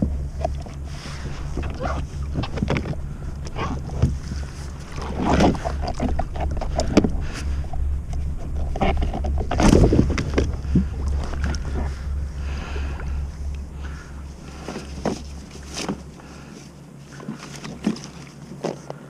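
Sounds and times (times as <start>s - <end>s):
wind rumble on microphone: 0.0s - 18.6s
water splashing against kayak hull: 0.0s - 19.0s.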